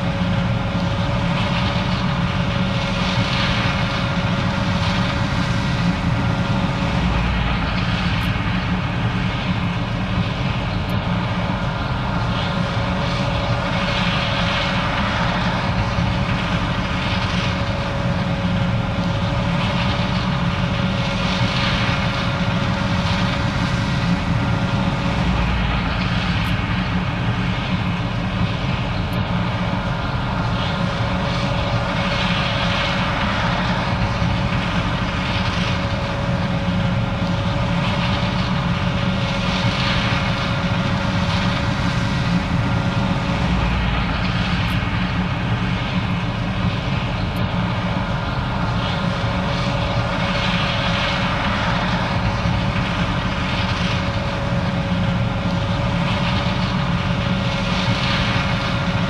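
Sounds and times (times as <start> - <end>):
combine harvester engine drone: 0.0 - 59.0
faint steady whine: 0.0 - 59.0.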